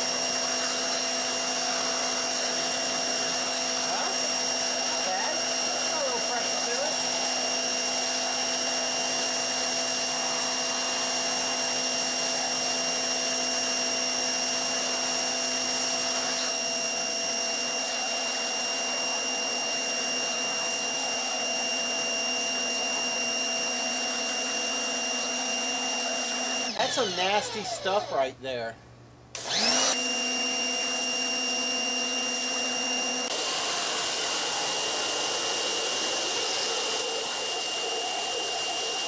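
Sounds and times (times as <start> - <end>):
pressure washer whining: 0.0 - 28.5, 29.3 - 39.0.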